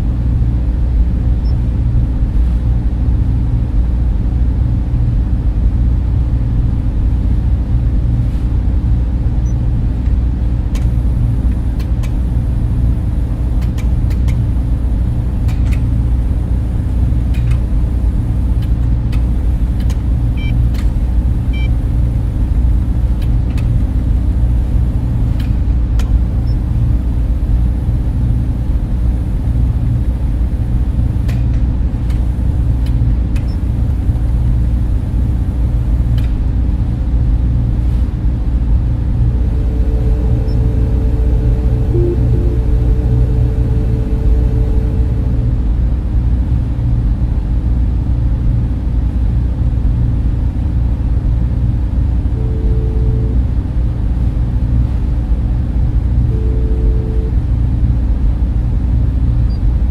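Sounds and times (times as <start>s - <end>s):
cooling fans humming: 0.0s - 59.9s.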